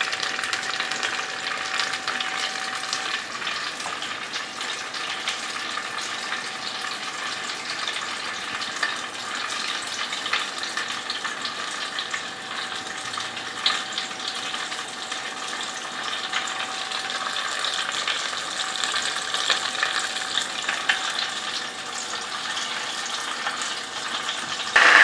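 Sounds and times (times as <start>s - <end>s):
food sizzling in deep fryer: 0.0s - 25.0s.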